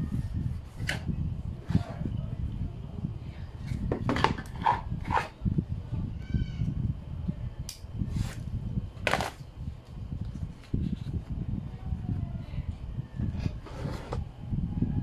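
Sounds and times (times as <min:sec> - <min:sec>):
low steady background rumble: 0:00.0 - 0:15.0.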